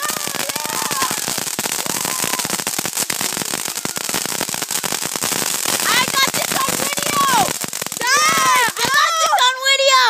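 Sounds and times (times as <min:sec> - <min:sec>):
firecrackers crackling: 0:00.0 - 0:10.0.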